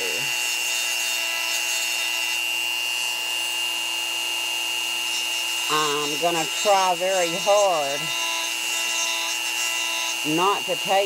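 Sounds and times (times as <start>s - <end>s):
grinding stone on acrylic: 0.0s - 11.0s
rotary tool whine: 0.0s - 11.0s.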